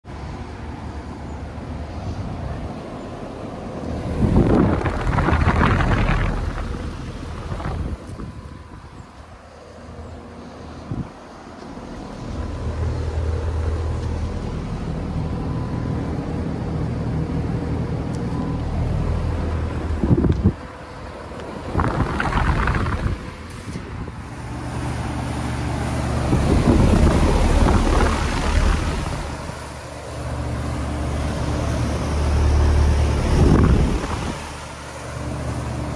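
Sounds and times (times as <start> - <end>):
fan air rushing: 0.0 - 35.9
air conditioner unit humming: 0.2 - 35.9.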